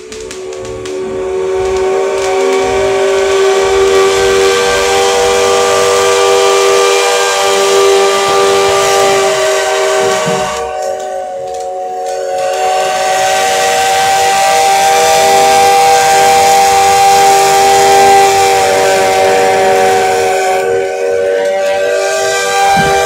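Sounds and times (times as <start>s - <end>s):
loud hiss of steam: 0.0s - 23.0s
steam locomotive whistle: 0.0s - 23.0s.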